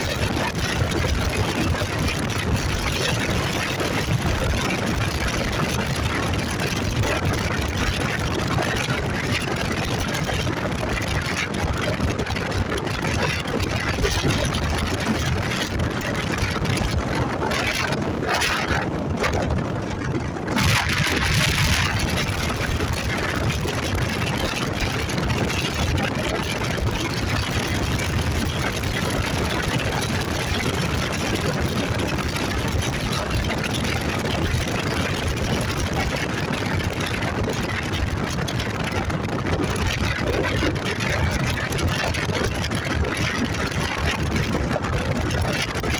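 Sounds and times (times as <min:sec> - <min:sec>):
motorcycle engine running: 0:00.0 - 0:45.9
rushing wind and road noise: 0:00.0 - 0:45.9.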